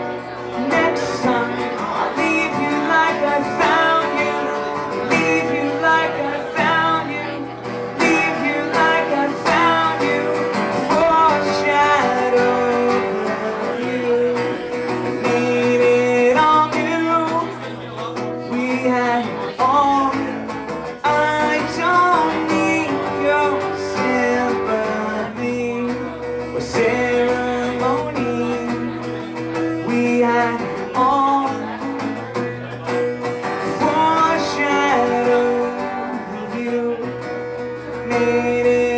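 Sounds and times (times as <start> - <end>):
acoustic guitar strumming: 0.0 - 38.9
man singing: 0.0 - 38.9.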